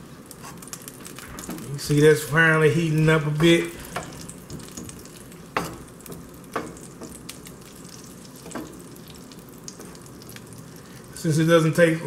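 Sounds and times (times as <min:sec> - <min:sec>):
butter and oil sizzling in pan: 0:00.0 - 0:12.0.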